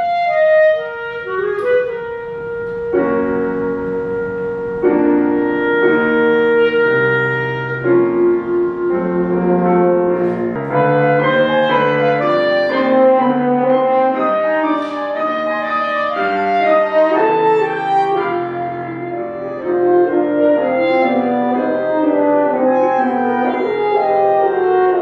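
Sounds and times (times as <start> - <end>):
clarinet: 0.0 - 25.0
french horn: 0.0 - 25.0
keyboard: 0.0 - 25.0.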